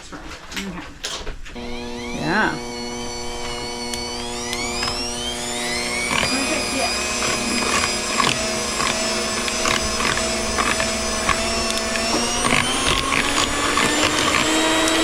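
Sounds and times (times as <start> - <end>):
irregular clicks: 0.5 - 15.0
electric mixer motor whine: 1.5 - 15.0.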